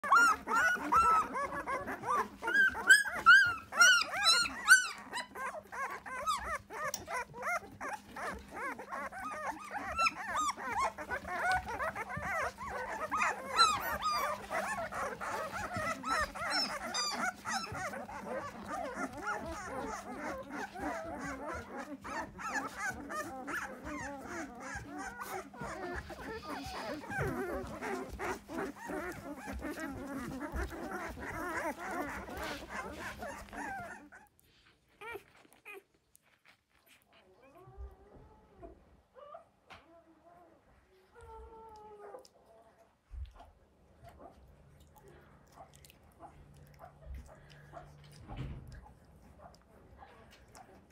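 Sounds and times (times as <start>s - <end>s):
puppies crying and whining: 0.0s - 40.4s, 41.0s - 42.4s.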